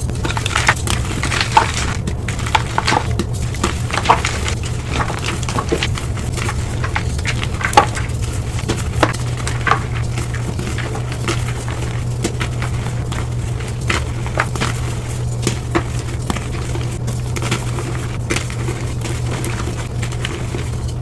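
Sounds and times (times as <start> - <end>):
chalk crunching and crackling: 0.0 - 21.0
steady low hum: 0.0 - 21.0.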